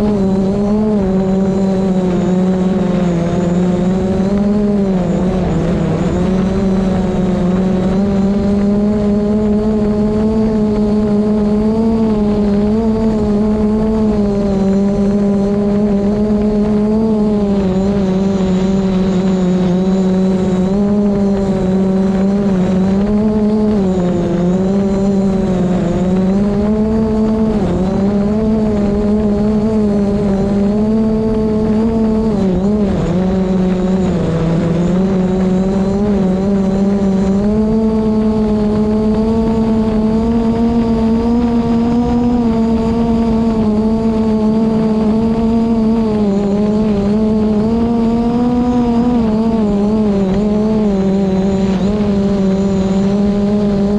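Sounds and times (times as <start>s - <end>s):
drone propellers whining: 0.0s - 53.9s
wind rumble on microphone: 0.0s - 53.9s.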